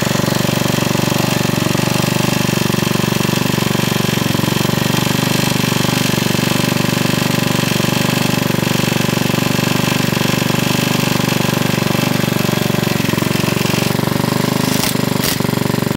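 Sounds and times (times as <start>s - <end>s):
generator engine running: 0.0s - 15.9s.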